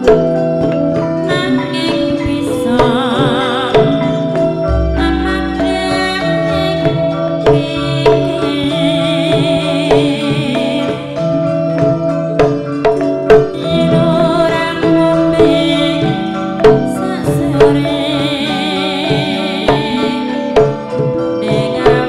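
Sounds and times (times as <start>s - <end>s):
woman singing: 0.0s - 12.1s, 13.5s - 22.0s
hand drum strikes: 0.0s - 22.0s
metallophones and gongs ringing: 0.0s - 22.0s.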